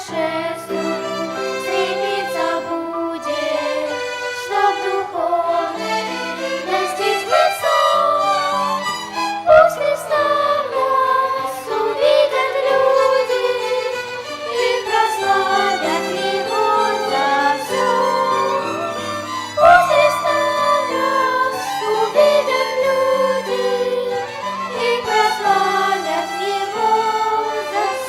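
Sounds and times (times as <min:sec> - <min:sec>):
choir singing a hymn: 0:00.0 - 0:28.0
violins bowing sustained notes: 0:00.0 - 0:28.0.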